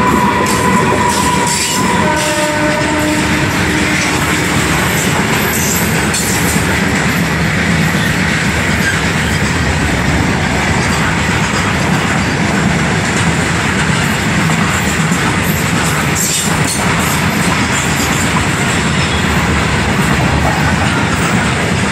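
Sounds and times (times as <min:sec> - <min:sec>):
steel wheels on rails: 0:00.0 - 0:21.9
train wagons rattling: 0:00.0 - 0:21.9.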